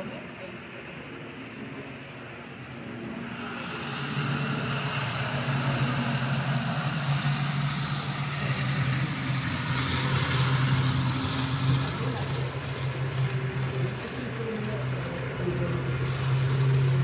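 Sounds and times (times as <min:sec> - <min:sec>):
model train rolling rumble: 0:00.0 - 0:17.0.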